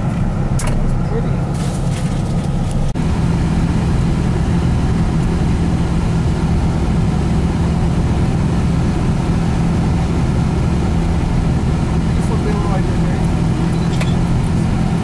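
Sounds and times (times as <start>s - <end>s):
vehicle engine and road drone: 0.0s - 15.0s.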